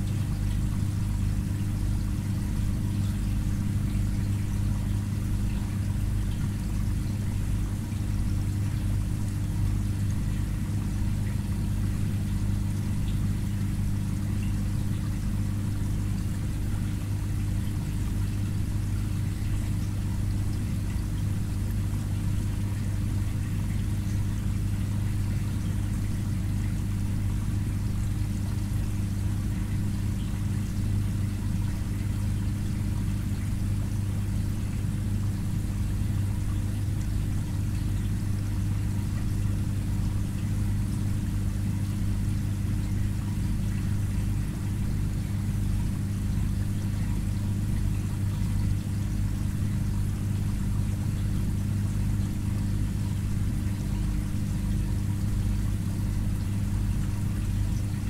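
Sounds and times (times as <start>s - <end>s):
aquarium pump humming: 0.0s - 58.0s.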